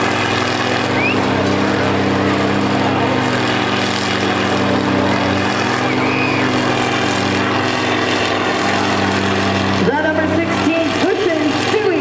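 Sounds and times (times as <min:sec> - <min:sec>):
combine harvester engines running: 0:00.0 - 0:12.0.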